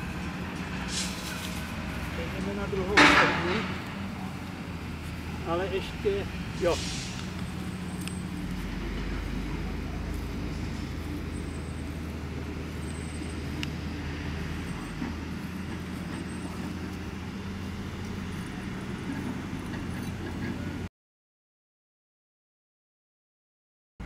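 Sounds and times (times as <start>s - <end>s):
low outdoor rumble: 0.0s - 20.9s.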